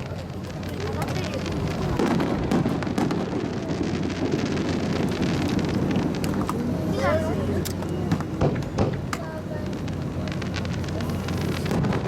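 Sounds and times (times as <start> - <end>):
fireworks booming: 0.0 - 12.0
fireworks crackling: 0.0 - 12.0.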